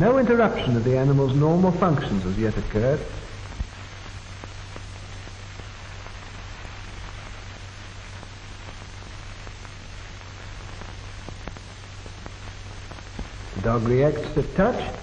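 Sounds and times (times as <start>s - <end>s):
faint crackles: 0.0s - 15.0s
film soundtrack hiss: 0.0s - 15.0s.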